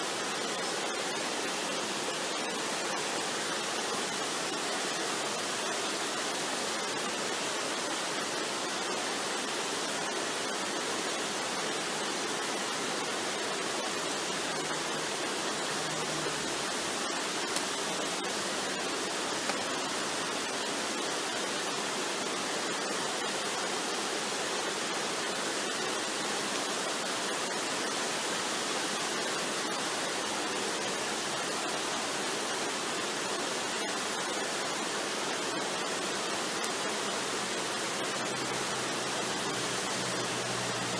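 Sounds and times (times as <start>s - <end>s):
waterfall rushing water: 0.0s - 40.9s.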